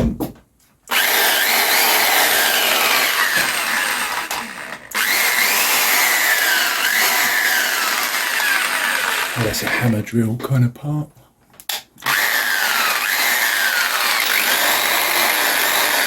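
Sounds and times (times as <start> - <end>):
electric drill whining: 0.9 - 9.9, 12.0 - 16.0.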